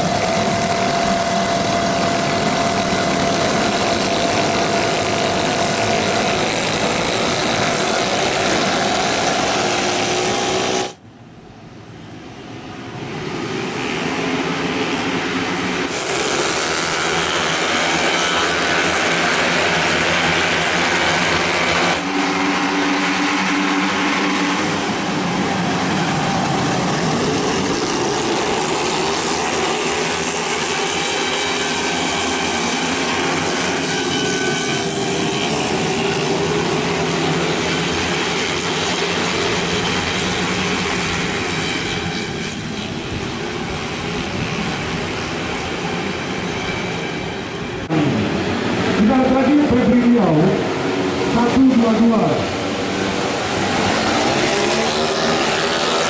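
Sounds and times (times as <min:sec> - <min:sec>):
scooter engines revving: 0:00.0 - 0:11.0, 0:13.1 - 0:56.0.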